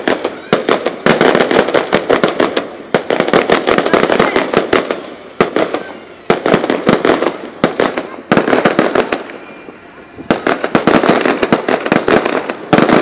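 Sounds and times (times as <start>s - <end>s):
fireworks banging and crackling: 0.0s - 13.0s.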